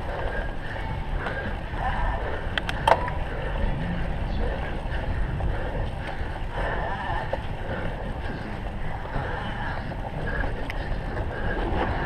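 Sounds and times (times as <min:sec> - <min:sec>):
bike rattling over rough ground: 0:00.0 - 0:12.0
wind on microphone: 0:00.0 - 0:12.0.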